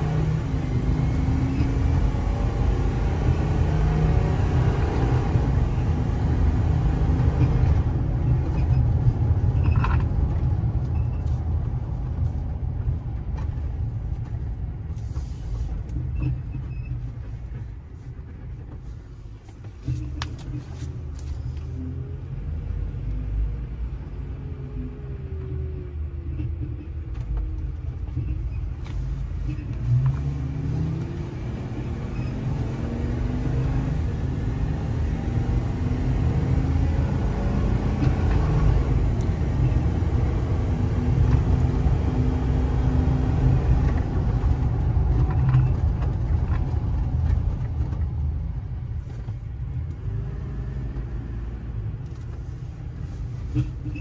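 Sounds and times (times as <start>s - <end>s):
low road rumble: 0.0s - 54.0s
truck engine drone: 0.0s - 54.0s.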